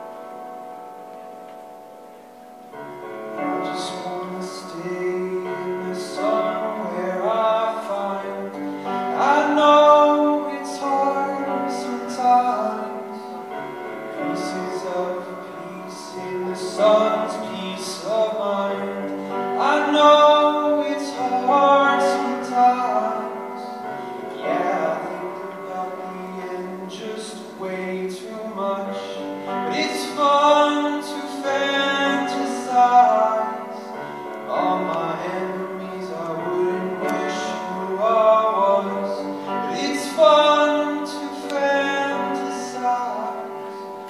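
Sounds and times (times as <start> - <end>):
piano chords: 0.0 - 44.0
man singing: 3.4 - 44.0.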